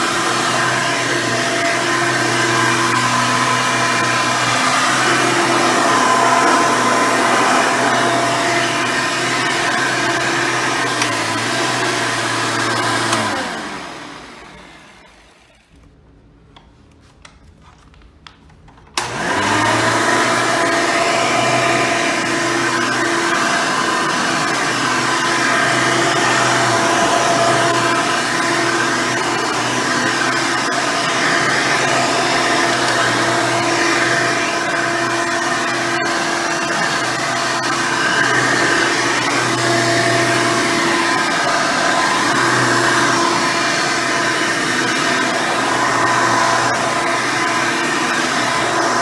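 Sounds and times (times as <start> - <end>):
upright vacuum motor running: 0.0 - 15.9, 19.0 - 49.0.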